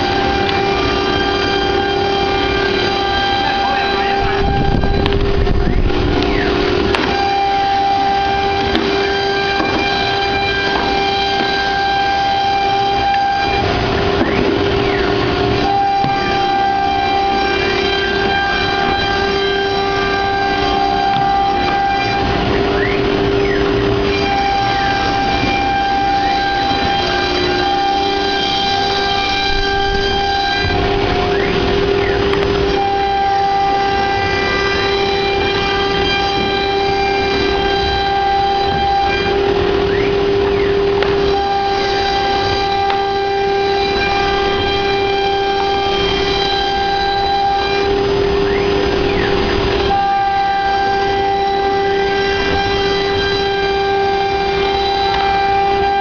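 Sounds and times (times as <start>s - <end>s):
cnc machine whine: 0.0s - 56.0s.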